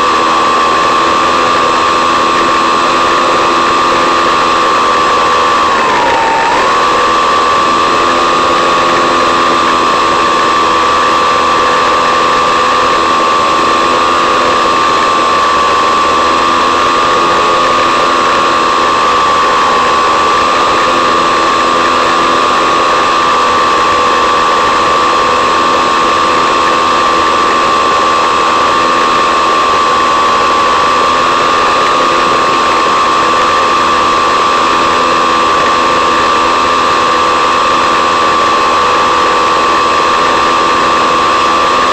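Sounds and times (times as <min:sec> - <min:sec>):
electric motor whine: 0:00.0 - 0:41.9.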